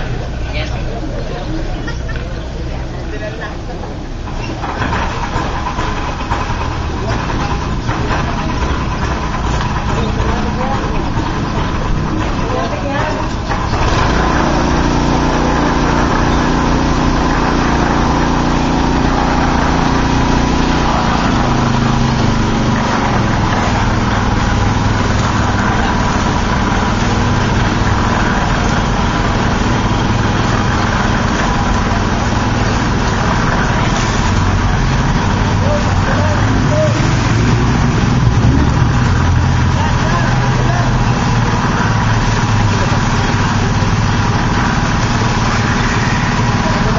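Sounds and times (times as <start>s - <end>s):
small engine running: 4.2s - 46.9s.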